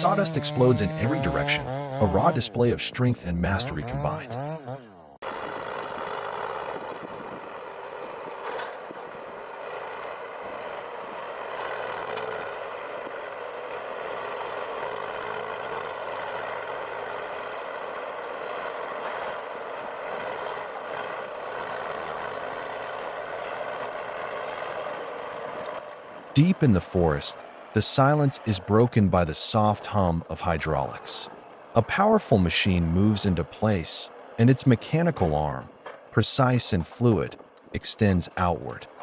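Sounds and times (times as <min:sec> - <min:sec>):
machine motor with high whine: 0:00.0 - 0:36.2.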